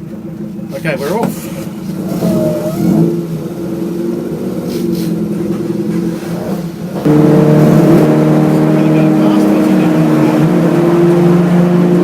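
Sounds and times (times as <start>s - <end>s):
race car engine running: 0.0s - 12.0s.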